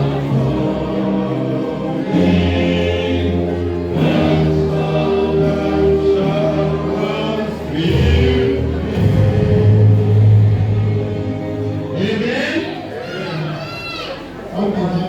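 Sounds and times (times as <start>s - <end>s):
low bass notes: 0.0s - 12.5s
group of voices singing: 0.0s - 13.3s.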